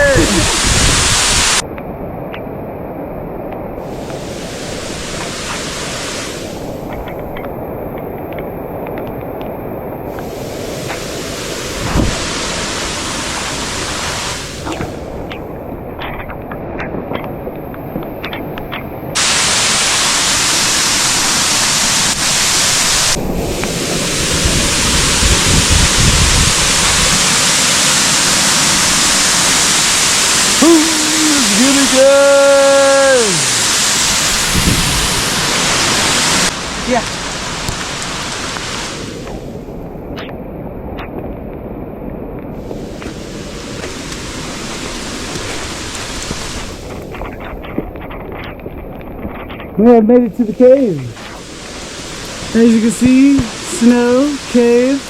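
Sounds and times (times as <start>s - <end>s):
rushing water of waterfall: 0.0s - 55.0s.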